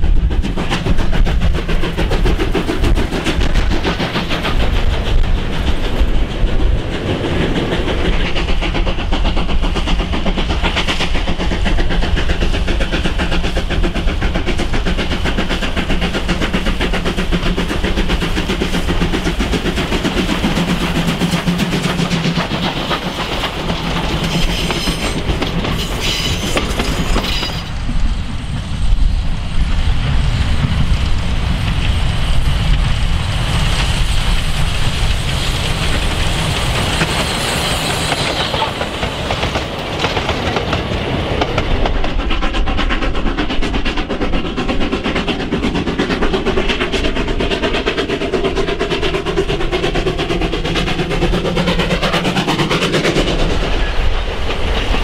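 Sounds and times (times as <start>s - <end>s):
wheel clatter over rail joints: 0.0s - 28.7s, 33.7s - 55.0s
steam locomotive exhaust: 0.0s - 55.0s.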